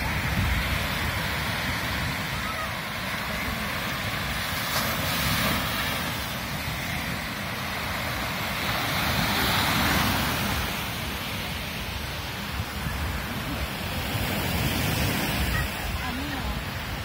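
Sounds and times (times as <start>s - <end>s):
small waves breaking on sand: 0.0s - 17.0s
wind rumbling on microphone: 0.0s - 17.0s.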